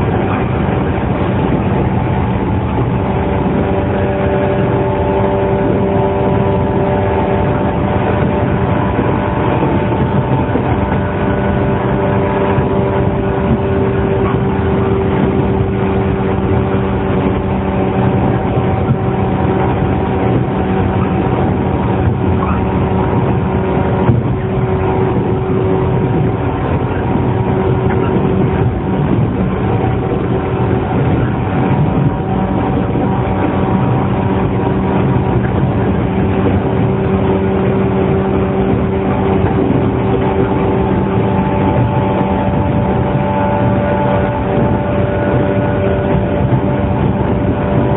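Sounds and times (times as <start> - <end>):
wheels rumbling on rails: 0.0 - 47.9.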